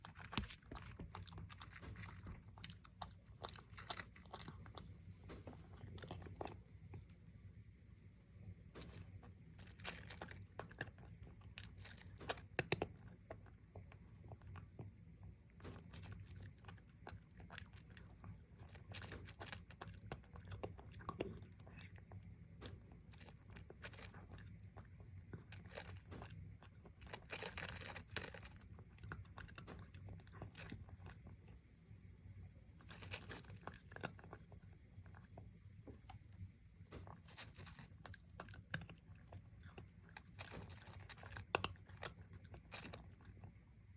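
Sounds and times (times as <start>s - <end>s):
cat chewing crunchy food: 0.0s - 43.9s.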